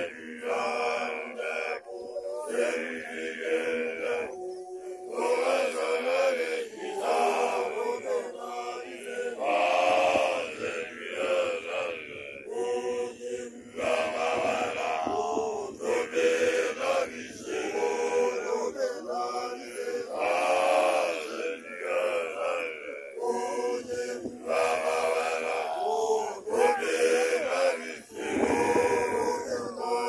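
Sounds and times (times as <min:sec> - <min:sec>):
young men chanting a song: 0:00.0 - 0:30.0.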